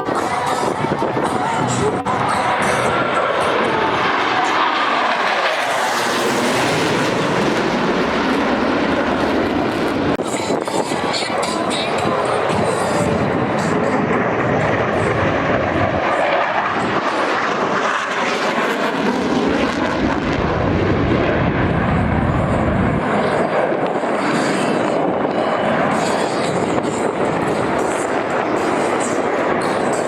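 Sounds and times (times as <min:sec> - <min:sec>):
jet aircraft flying past: 0:00.0 - 0:30.0.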